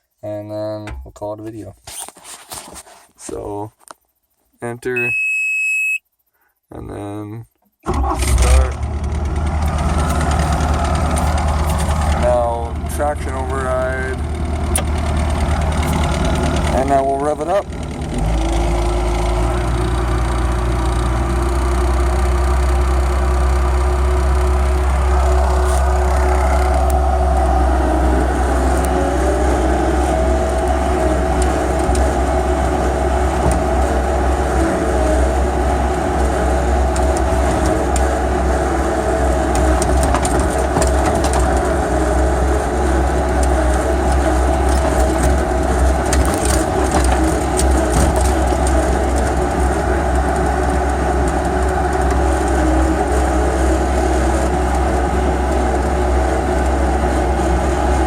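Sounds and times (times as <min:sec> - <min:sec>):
diesel engine droning: 0:07.8 - 0:58.0.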